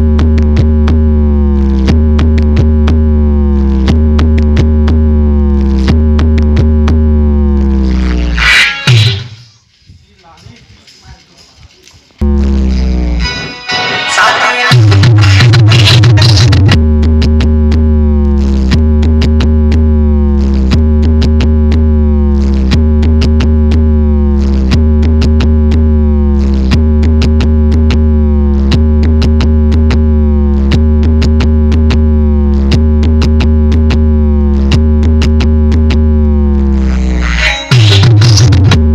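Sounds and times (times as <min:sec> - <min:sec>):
electronic dance music heavy bass: 0:00.0 - 0:09.7, 0:12.2 - 0:38.9.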